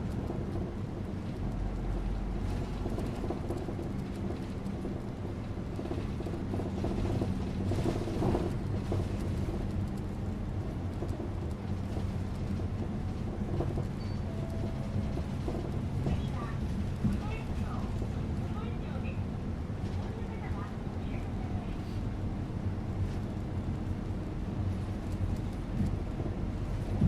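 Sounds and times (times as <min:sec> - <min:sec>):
bus engine running: 0:00.0 - 0:27.0
road rumble: 0:00.0 - 0:27.0.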